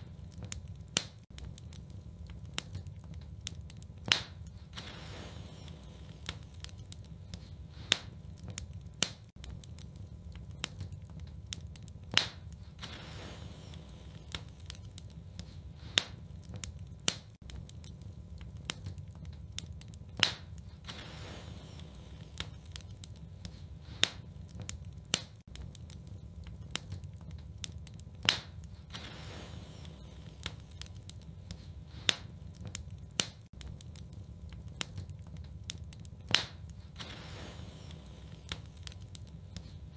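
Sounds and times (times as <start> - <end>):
sharp pops of burning wood: 0.0 - 39.9
wood fire crackling: 0.0 - 39.9.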